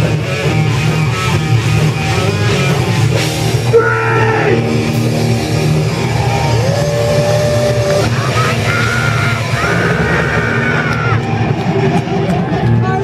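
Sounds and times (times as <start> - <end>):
bass and drums: 0.0 - 13.0
distorted electric guitars: 0.0 - 13.0.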